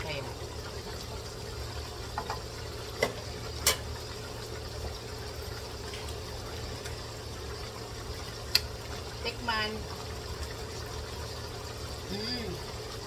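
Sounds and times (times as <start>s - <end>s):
pot simmering: 0.0s - 13.0s.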